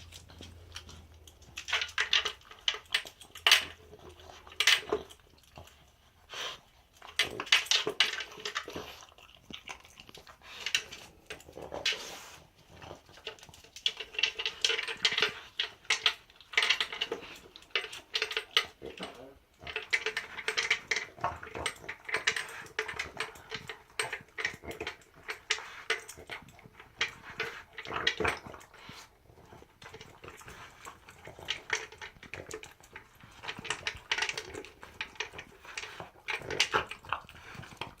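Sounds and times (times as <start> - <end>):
kibble rattling against plastic bowl: 0.0 - 5.9, 7.0 - 38.0
dog breathing and mouth noises: 0.0 - 38.0.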